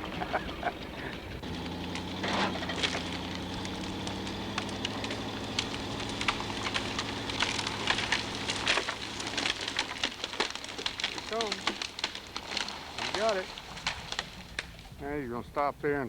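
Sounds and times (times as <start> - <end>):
car engine running low revs: 0.0 - 15.3
branches crackling and snapping: 0.0 - 16.0.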